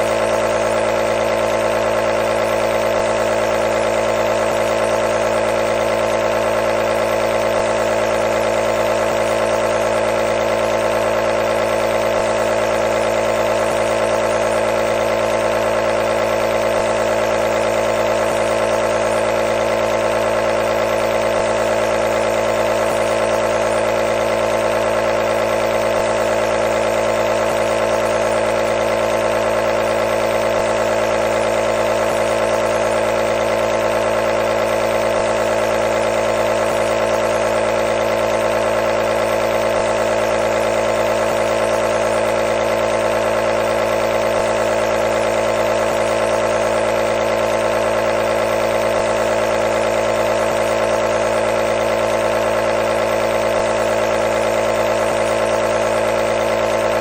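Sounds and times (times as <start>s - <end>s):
nebulizer compressor humming: 0.0s - 57.0s.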